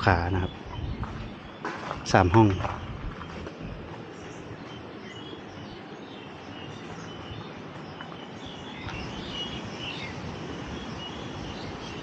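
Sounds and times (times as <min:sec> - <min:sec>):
birds chirping: 0:00.0 - 0:12.0
low background noise: 0:00.0 - 0:12.0.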